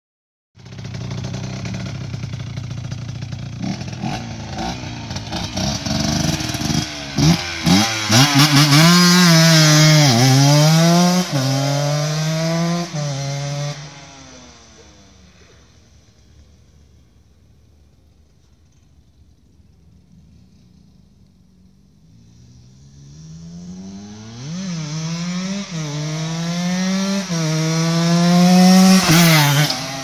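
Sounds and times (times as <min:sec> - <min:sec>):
motorcycle engine accelerating: 0:00.6 - 0:30.0.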